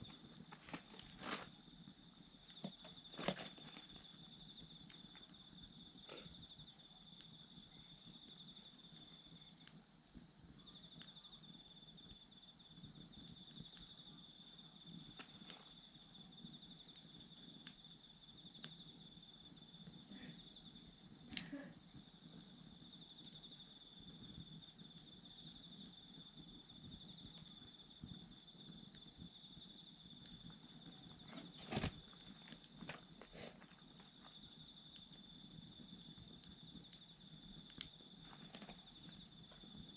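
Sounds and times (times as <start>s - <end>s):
campfire crackling and popping: 0.0s - 20.0s, 22.2s - 39.9s
insects trilling: 0.0s - 39.9s.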